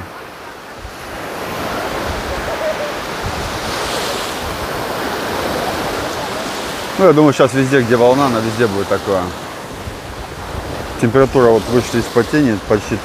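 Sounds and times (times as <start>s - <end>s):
small waves washing over sand: 0.0s - 13.0s.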